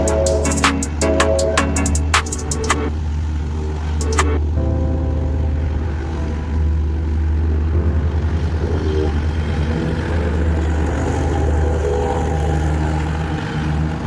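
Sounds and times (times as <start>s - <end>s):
construction machine engine running: 0.0s - 14.0s.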